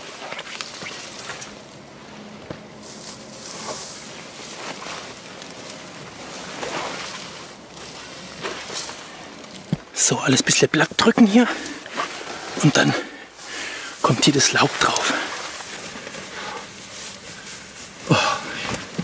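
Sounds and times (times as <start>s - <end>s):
twigs rustling and crackling: 0.0s - 19.0s.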